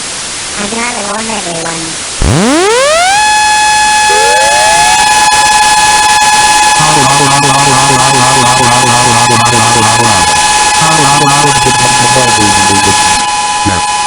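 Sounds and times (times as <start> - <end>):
pulsing horn-like alarm: 2.2 - 14.0
warning sirens wailing: 2.2 - 14.0.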